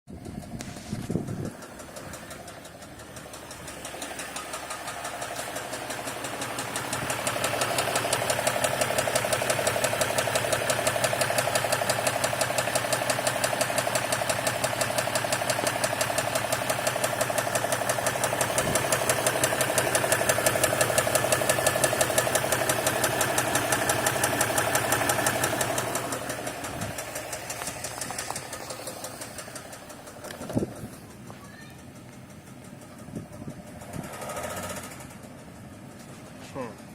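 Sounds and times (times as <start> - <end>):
diesel engine knocking: 0.1 - 36.9.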